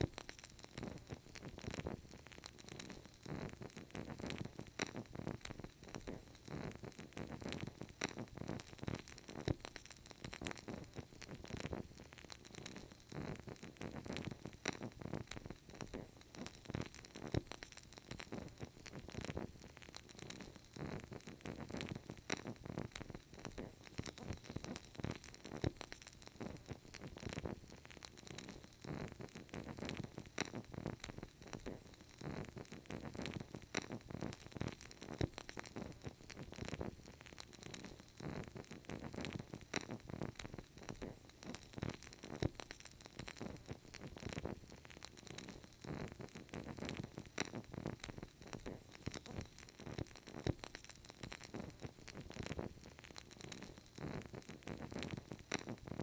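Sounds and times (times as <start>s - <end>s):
candle crackling and popping: 0.0s - 56.0s
faint steady hiss: 0.0s - 56.0s.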